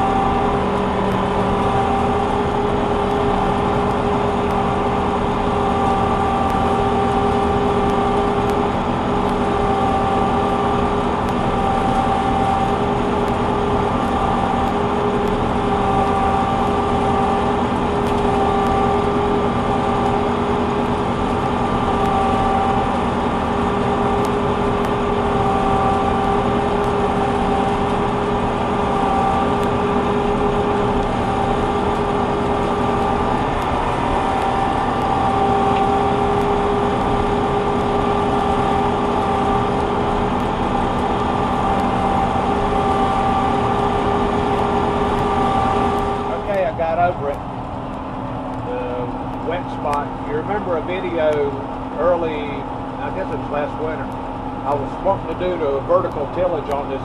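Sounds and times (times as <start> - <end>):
combine harvester engine rumble: 0.0 - 57.0
constant whine: 0.0 - 57.0.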